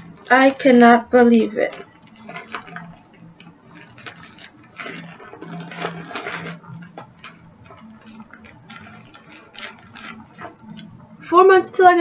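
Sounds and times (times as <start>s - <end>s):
package wrapping crinkling: 0.0s - 11.1s.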